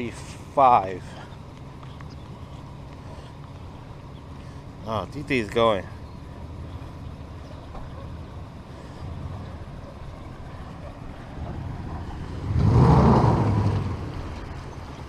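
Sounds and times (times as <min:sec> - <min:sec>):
motor vehicle humming: 0:00.0 - 0:15.0.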